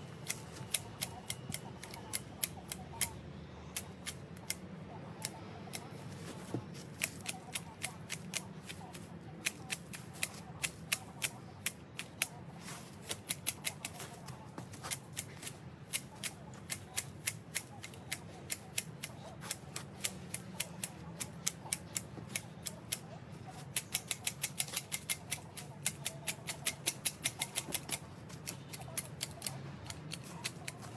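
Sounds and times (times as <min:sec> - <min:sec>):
hedge shears snipping: 0:00.0 - 0:03.2, 0:03.8 - 0:30.9.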